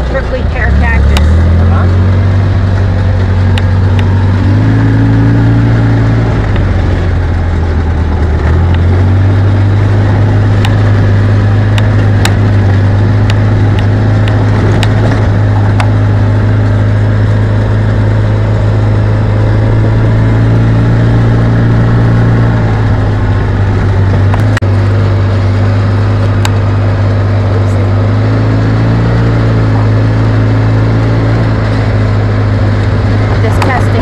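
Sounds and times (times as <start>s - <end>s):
off-road vehicle engine hum: 0.0s - 34.0s.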